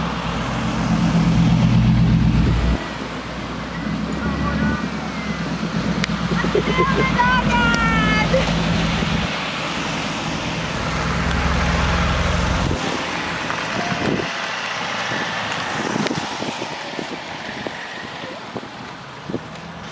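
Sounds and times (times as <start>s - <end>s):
cars passing on wet asphalt: 0.0s - 19.9s.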